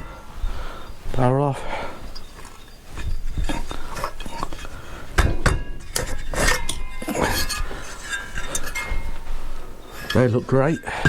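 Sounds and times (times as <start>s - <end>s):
metal parts and tools clinking: 2.0s - 11.0s.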